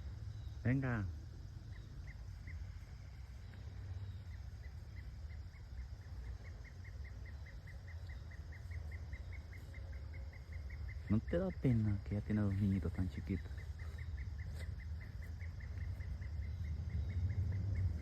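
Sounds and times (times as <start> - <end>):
faint high chirping: 0.0 - 18.0
steady low rumble: 0.0 - 18.0.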